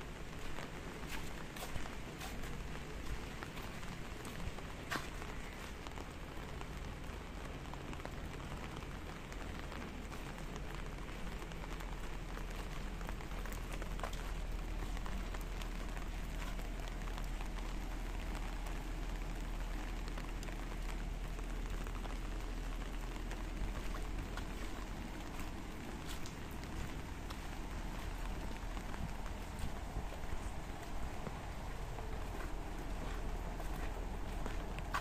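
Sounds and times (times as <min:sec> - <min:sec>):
patter of raindrops: 0:00.0 - 0:35.0.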